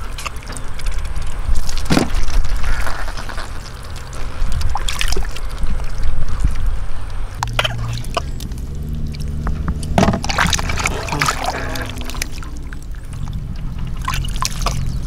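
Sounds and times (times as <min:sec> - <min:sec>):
hands squelching in wet mud: 0:00.0 - 0:15.0
sharp water splashes: 0:00.0 - 0:15.0
steady low rumble: 0:00.0 - 0:15.0.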